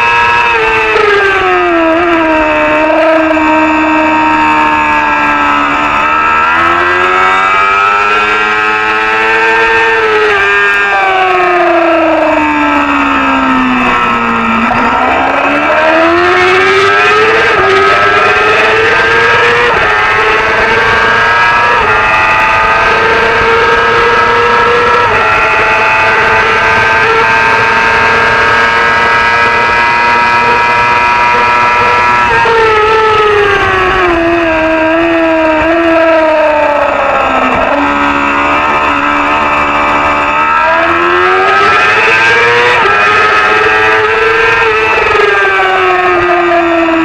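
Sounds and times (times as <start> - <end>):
racing motorcycle accelerating: 0.0 - 47.0.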